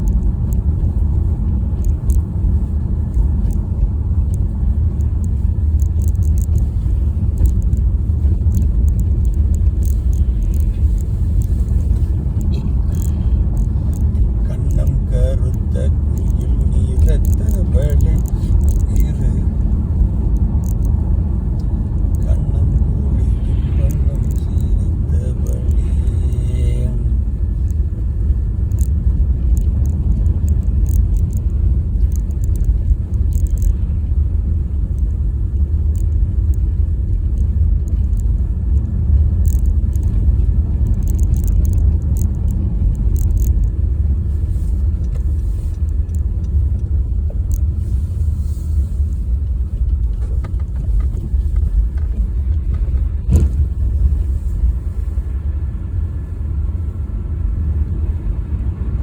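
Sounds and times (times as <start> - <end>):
car driving on road: 0.0 - 59.0.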